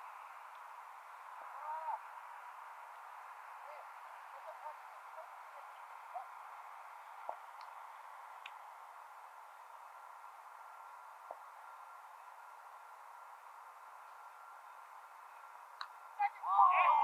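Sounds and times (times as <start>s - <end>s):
distant voices: 0.0s - 17.0s
outdoor hiss: 0.0s - 17.0s.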